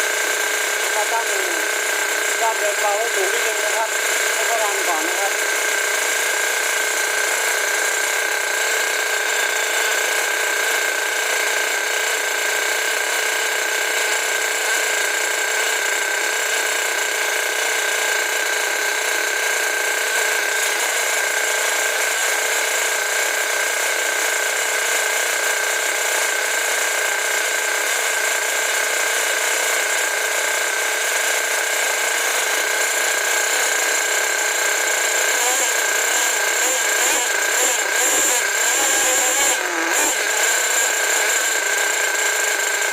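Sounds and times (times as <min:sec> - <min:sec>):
model engine buzzing: 0:00.0 - 0:42.9.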